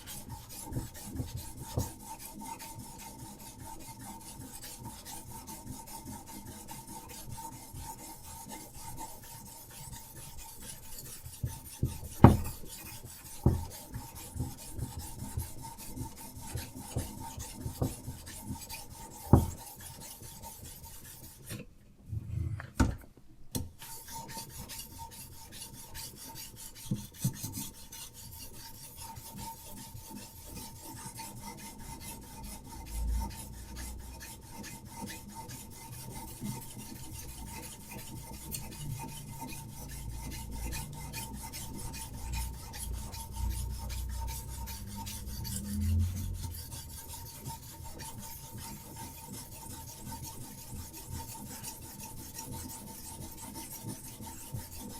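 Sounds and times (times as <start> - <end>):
sharpening stone rasping on knife: 0.0 - 21.6, 23.8 - 54.9.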